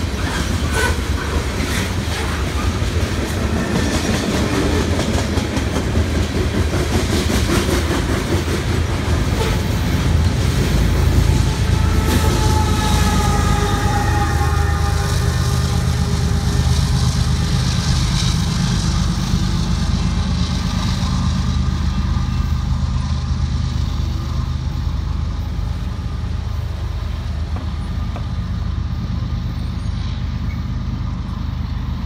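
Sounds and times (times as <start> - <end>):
diesel locomotive rumble: 0.0 - 32.0
road traffic engines: 0.0 - 32.0.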